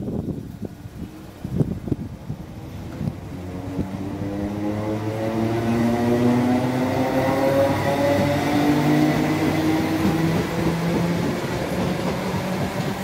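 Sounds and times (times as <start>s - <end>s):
wind buffeting microphone: 0.0s - 13.0s
electric train motors whining: 0.9s - 13.0s.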